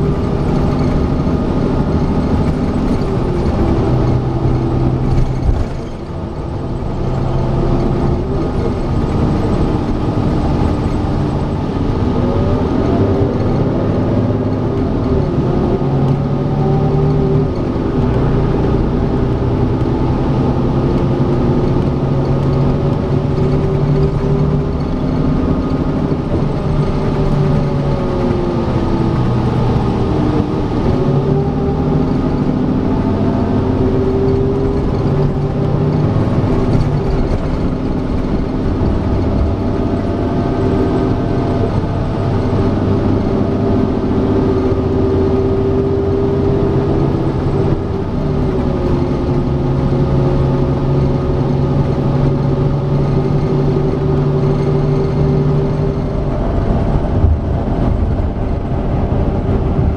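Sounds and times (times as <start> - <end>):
bus engine and transmission: 0.0 - 59.9
road noise: 0.0 - 59.9.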